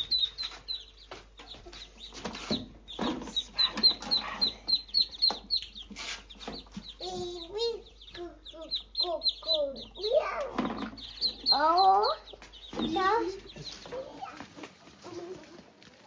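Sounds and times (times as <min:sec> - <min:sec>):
high falling peeps: 0:00.0 - 0:14.4
chickens clucking: 0:00.0 - 0:16.0.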